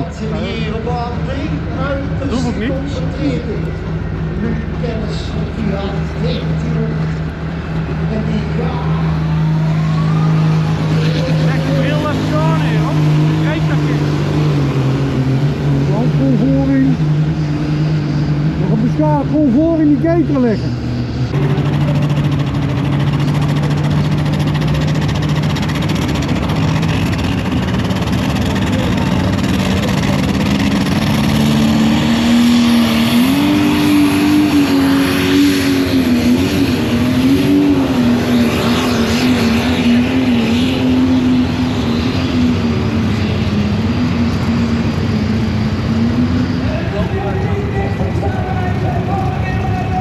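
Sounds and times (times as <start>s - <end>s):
tractor engine revving: 0.0s - 50.0s.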